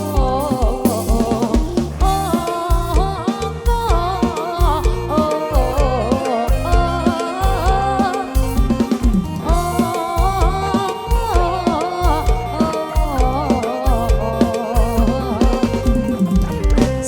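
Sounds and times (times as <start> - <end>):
live band music: 0.0 - 17.0
pounding bass drum beat: 0.0 - 17.0.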